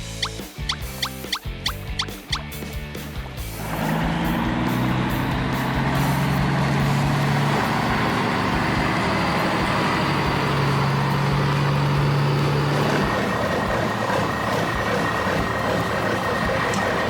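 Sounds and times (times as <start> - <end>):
heavy truck engines running: 1.8 - 17.0.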